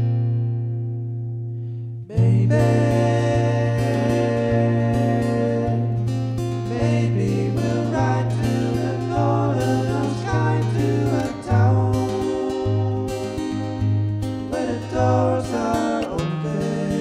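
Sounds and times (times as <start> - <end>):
acoustic guitar: 0.0 - 17.0
low bass line: 0.0 - 17.0
person singing melody: 2.1 - 17.0.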